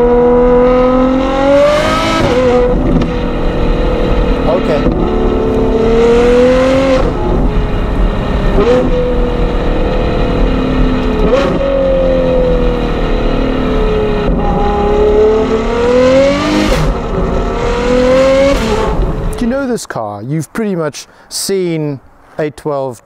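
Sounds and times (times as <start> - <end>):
sports car engine revving: 0.0 - 19.4
gear changes: 0.0 - 19.6.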